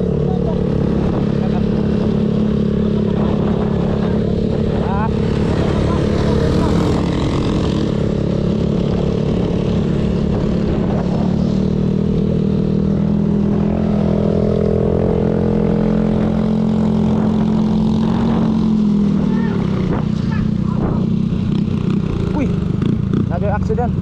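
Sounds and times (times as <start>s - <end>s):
scooter engine cruising: 0.0s - 24.0s
wind and road noise: 0.0s - 24.0s.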